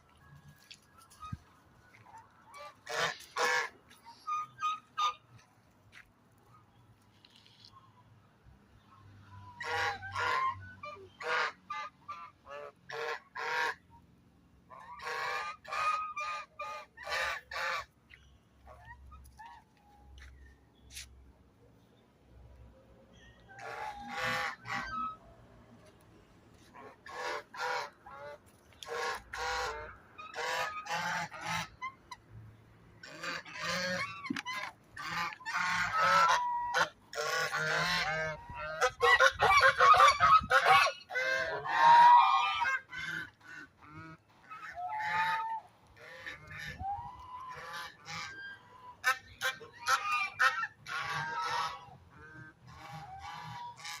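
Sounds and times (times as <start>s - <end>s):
geese honking: 0.0s - 5.4s, 9.4s - 13.8s, 14.7s - 21.0s, 23.4s - 25.3s, 26.6s - 32.2s, 33.0s - 54.0s.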